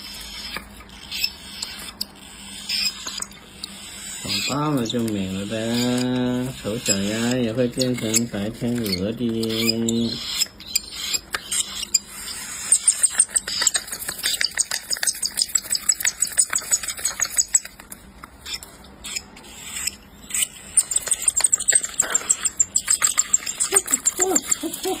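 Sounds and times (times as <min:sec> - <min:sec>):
parrot chicks chirping: 0:00.0 - 0:25.0.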